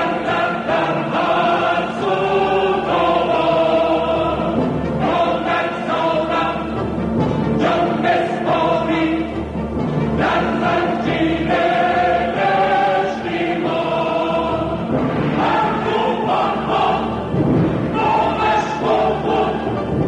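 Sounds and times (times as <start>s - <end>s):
choir singing: 0.0s - 20.0s
music: 0.0s - 20.0s.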